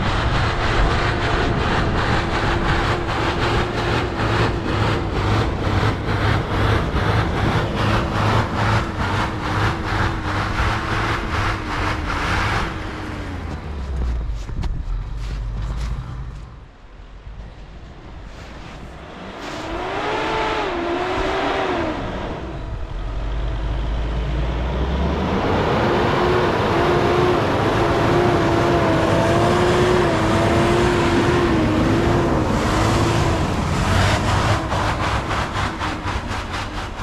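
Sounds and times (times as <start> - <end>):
pickup engine revving: 0.0 - 16.5, 19.2 - 37.0
tyres spinning in snow: 0.0 - 22.0, 27.4 - 37.0.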